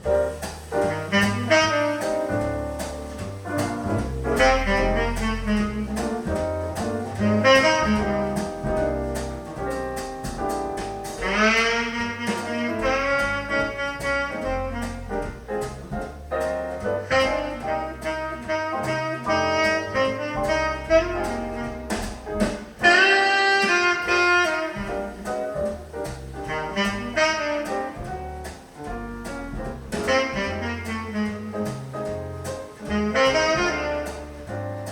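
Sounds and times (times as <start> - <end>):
jazz with saxophone piano and bass: 0.0 - 34.9.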